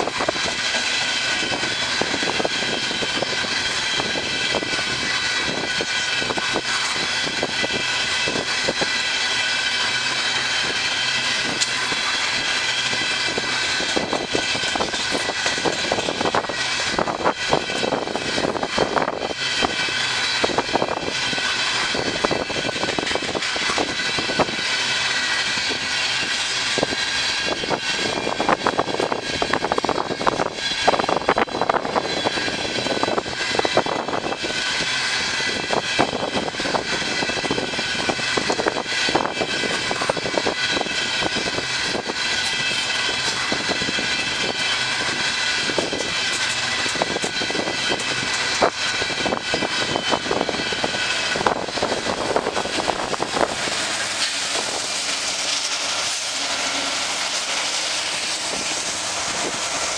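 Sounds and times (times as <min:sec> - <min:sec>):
high ringing tones: 0:00.0 - 0:59.9
train wheels rumbling on rail: 0:00.0 - 0:59.9.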